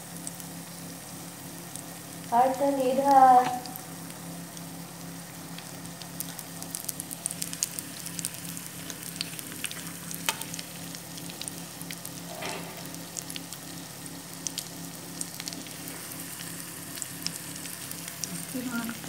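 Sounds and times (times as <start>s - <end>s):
low steady hum: 0.0s - 19.0s
spring rolls sizzling in oil: 0.0s - 19.0s.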